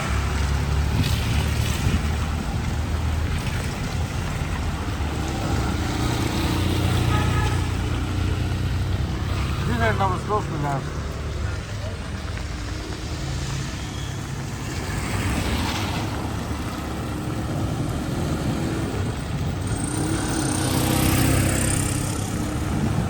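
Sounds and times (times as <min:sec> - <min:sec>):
vehicle engines running: 0:00.0 - 0:23.0
vehicle passing: 0:00.0 - 0:23.0.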